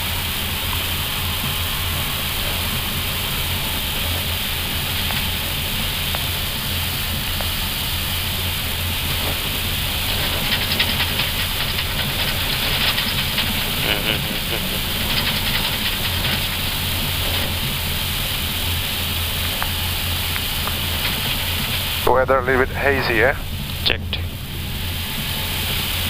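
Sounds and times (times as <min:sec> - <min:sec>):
cockpit hum and airflow hiss: 0:00.0 - 0:26.0.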